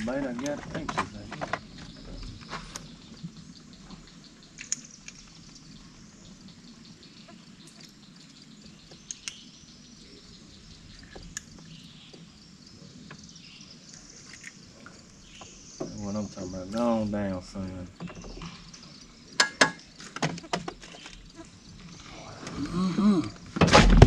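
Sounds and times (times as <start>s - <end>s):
faint bird or insect calls: 0.0s - 24.0s.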